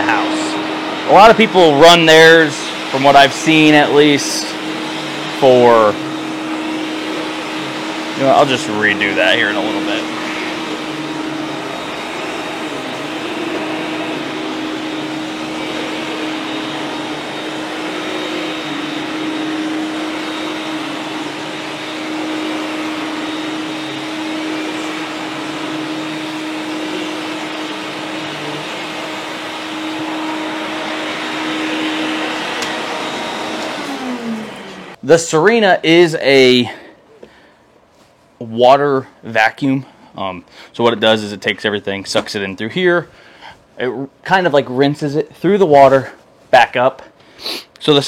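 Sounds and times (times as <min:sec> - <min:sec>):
vacuum cleaner running: 0:00.0 - 0:38.0, 0:44.4 - 0:48.0.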